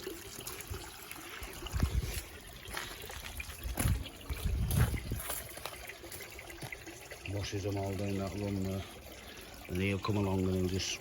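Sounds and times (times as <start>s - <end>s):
pond waterfall trickling: 0.0s - 11.0s.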